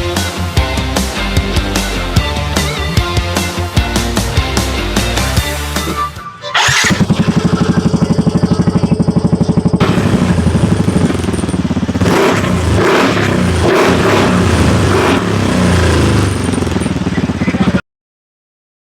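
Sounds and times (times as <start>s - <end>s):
motorcycle engine idling and revving: 0.0s - 6.0s, 6.6s - 17.8s.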